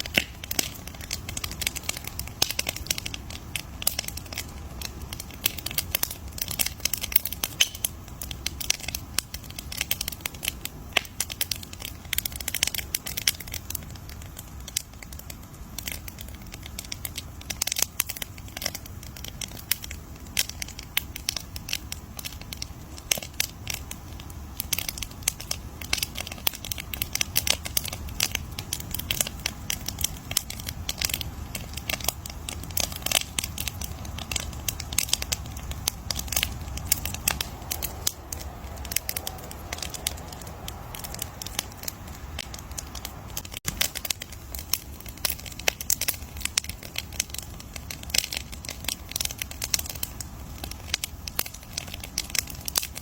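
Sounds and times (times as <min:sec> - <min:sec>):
low rumble of flames: 0:00.0 - 0:53.0
wood fire snapping: 0:00.0 - 0:53.0.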